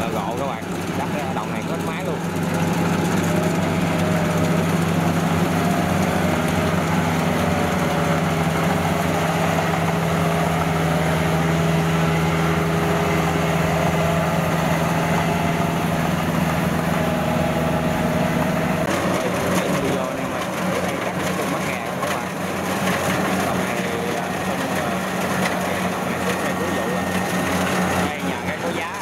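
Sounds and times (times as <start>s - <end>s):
diesel engine drone: 0.0s - 29.0s
machinery rattling: 0.0s - 29.0s.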